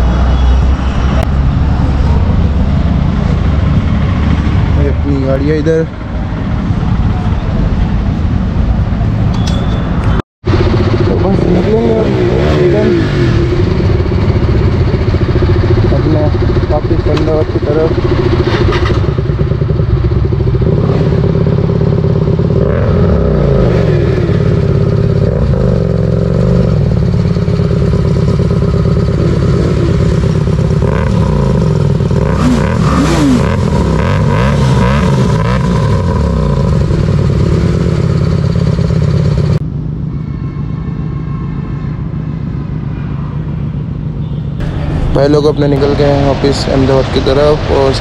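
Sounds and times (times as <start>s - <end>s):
motorcycles idling and revving: 0.0s - 48.0s.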